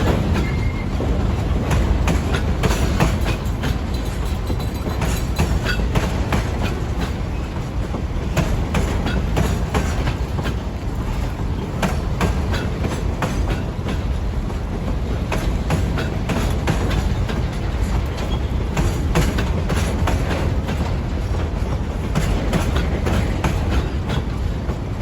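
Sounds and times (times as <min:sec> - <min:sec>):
freight wagons rumbling: 0:00.0 - 0:25.0
train wheels clacking over rail joints: 0:00.0 - 0:25.0.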